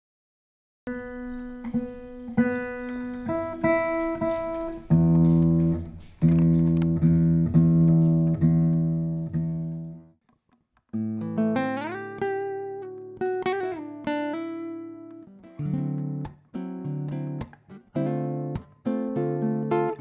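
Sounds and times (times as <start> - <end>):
fingerpicked nylon-string guitar: 0.9 - 20.0.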